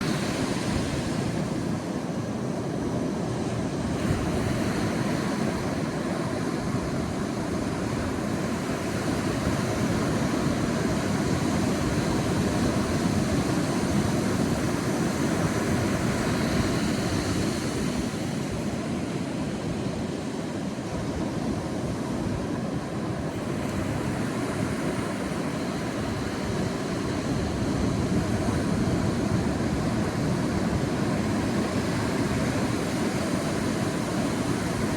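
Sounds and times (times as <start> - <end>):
waves breaking on a beach: 0.0 - 34.9.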